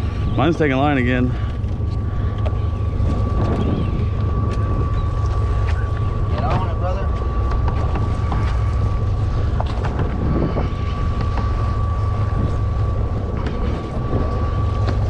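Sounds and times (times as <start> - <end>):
boat engine rumbling: 0.0 - 15.0
thin steady whine: 0.0 - 15.0
wind buffeting microphone: 0.0 - 15.0.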